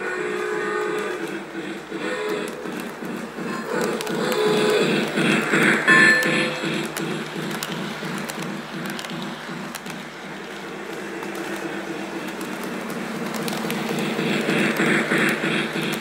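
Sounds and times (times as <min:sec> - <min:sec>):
toy train running on track: 0:00.0 - 0:16.0
wheels clicking on rails: 0:00.0 - 0:16.0.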